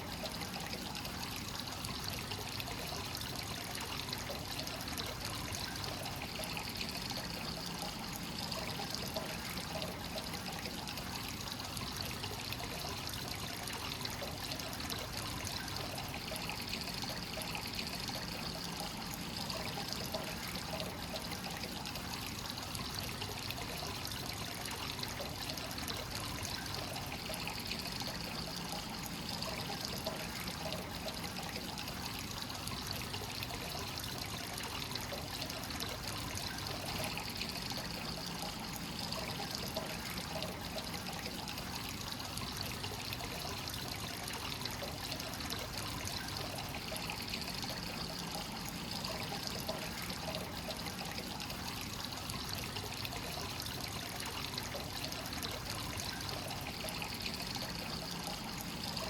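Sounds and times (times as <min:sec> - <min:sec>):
water pouring into a bath: 0:00.0 - 0:59.0.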